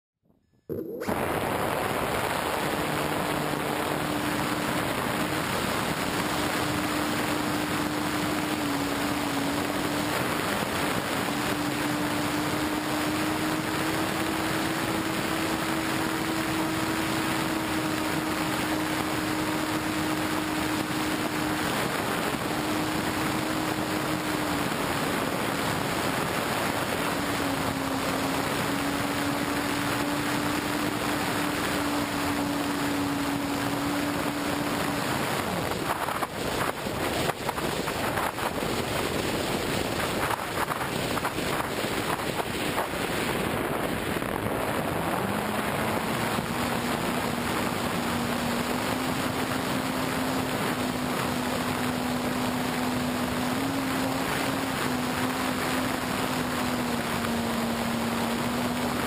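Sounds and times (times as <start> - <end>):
electric motor and propeller hum: 0.6 - 59.0
wind noise on microphone: 0.7 - 59.0.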